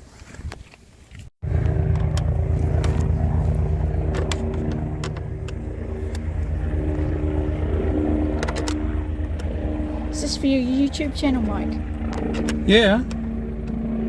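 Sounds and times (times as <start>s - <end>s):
engine idling: 1.4s - 14.0s.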